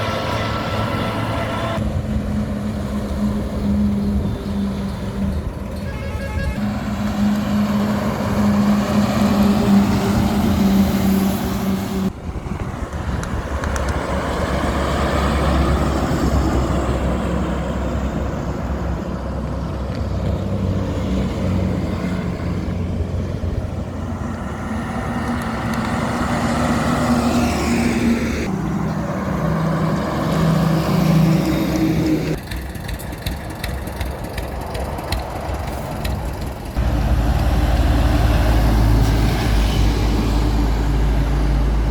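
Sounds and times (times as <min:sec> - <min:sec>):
highway traffic passing: 0:00.0 - 0:41.9.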